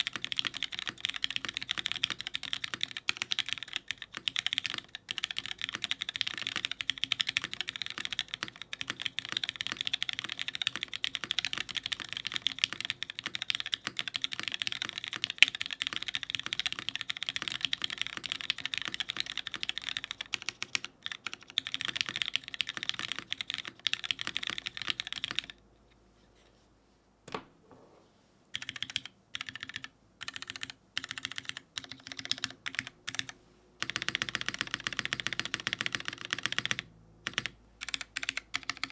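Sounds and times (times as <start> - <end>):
mechanical keyboard typing: 0.0 - 25.6, 28.5 - 38.9.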